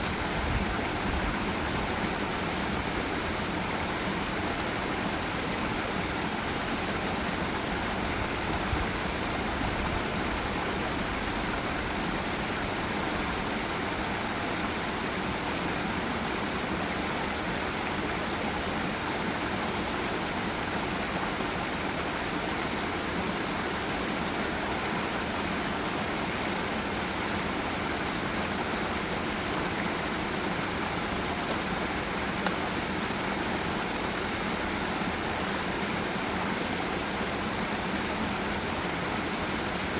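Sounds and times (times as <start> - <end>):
water rushing over waterfall: 0.0 - 39.9.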